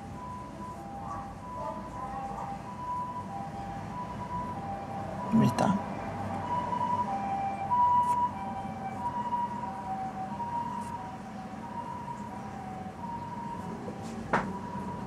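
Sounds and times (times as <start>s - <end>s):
ambulance two-tone siren: 0.0s - 15.0s.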